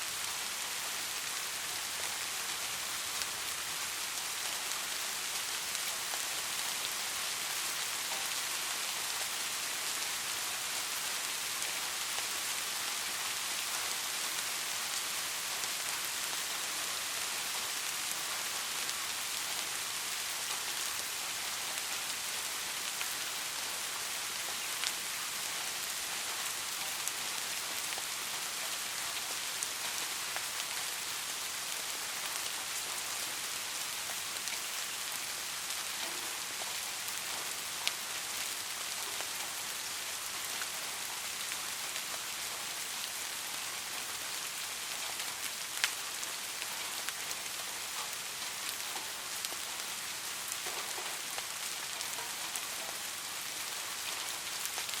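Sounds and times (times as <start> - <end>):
rain falling on a street: 0.0 - 55.0.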